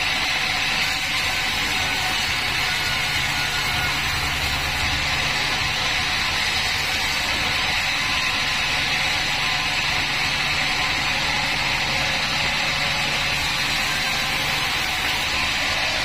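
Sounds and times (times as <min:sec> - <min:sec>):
band sawmill sawing log: 0:00.0 - 0:16.0.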